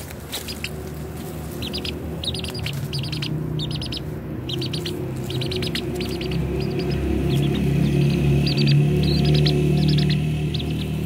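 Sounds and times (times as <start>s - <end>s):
small bird chirping: 0.4s - 0.8s, 1.5s - 11.0s
low background music: 1.8s - 11.0s.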